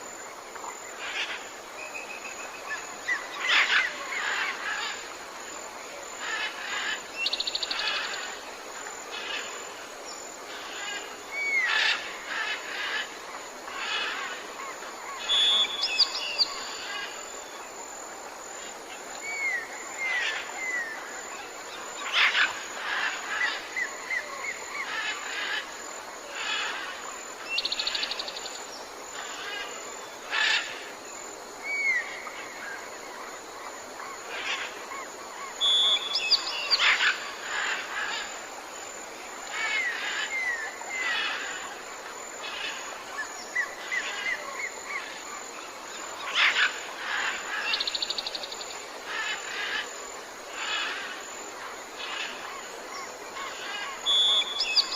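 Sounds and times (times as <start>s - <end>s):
steady background hiss: 0.0s - 54.9s.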